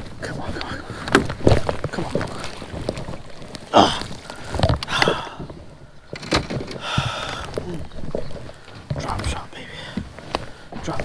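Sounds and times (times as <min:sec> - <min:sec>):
fishing gear knocking and scraping: 0:00.2 - 0:11.0.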